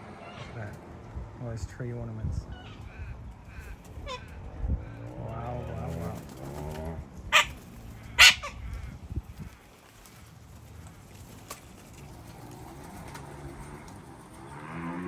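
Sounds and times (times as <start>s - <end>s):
soft flock chatter: 0.0s - 14.6s
bird calls and clicks: 2.5s - 15.0s.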